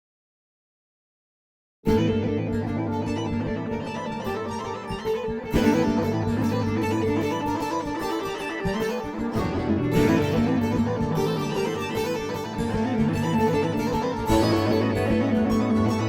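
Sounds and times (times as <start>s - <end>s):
plucked guitar pattern: 1.9s - 16.0s.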